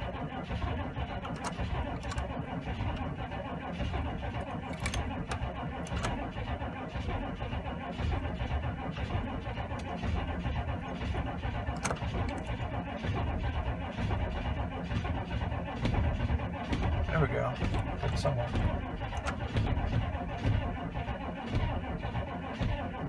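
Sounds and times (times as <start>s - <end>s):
diesel engine starter cranking: 0.0s - 23.0s.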